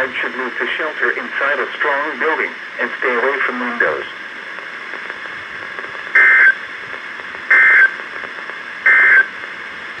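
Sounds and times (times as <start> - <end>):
steady radio hiss: 0.0 - 10.0.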